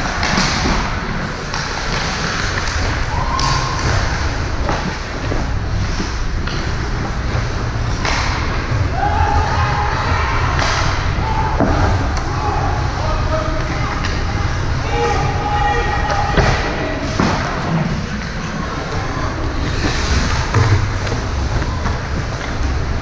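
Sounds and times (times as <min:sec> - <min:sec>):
steady din of hall: 0:00.0 - 0:23.0.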